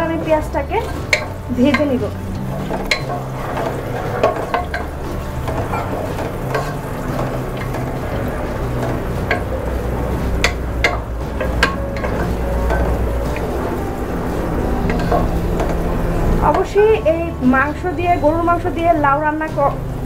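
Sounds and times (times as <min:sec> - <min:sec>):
onions sizzling in hot oil: 0:00.0 - 0:20.0
wooden spatula scraping a pot: 0:00.1 - 0:17.9.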